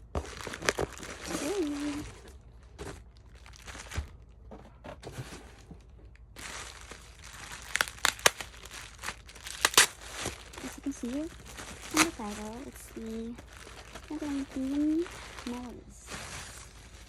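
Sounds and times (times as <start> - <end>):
packaging crinkling and tearing: 0.0 - 2.2, 3.0 - 4.2, 6.3 - 17.0.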